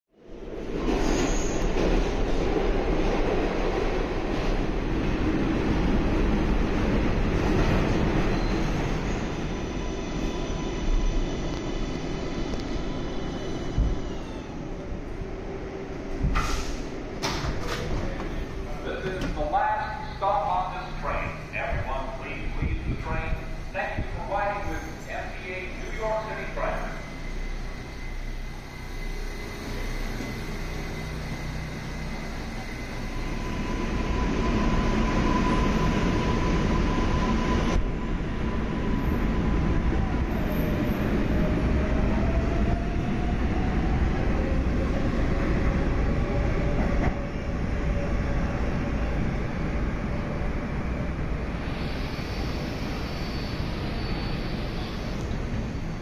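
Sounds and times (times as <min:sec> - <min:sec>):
rumble of train wheels: 0:00.1 - 0:56.0.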